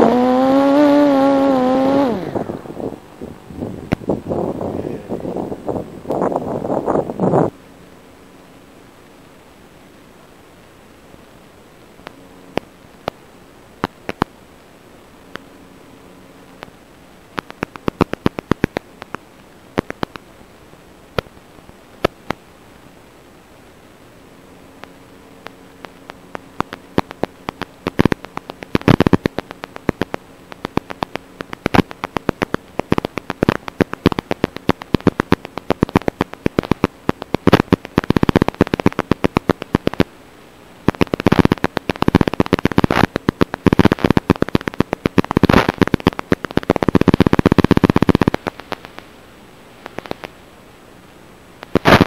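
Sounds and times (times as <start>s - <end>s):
faint steady hum: 0.0s - 52.0s
radio static hiss: 0.0s - 52.0s
sharp crackles and pops: 5.6s - 52.0s.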